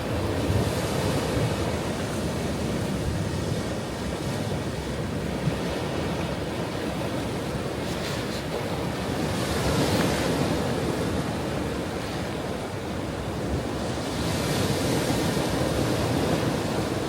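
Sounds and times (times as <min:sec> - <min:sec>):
ocean waves rushing: 0:00.0 - 0:17.0.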